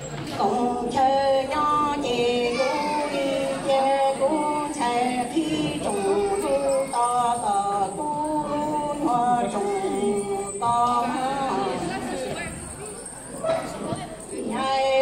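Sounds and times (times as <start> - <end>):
woman singing over pa system: 0.3 - 12.1, 14.4 - 15.0.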